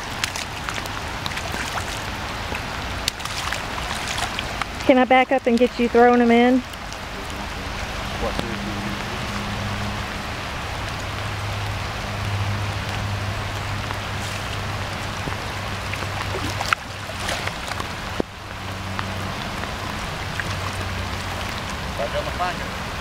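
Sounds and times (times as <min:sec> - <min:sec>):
low steady hum: 0:00.0 - 0:23.0
steady rain falling: 0:00.0 - 0:23.0.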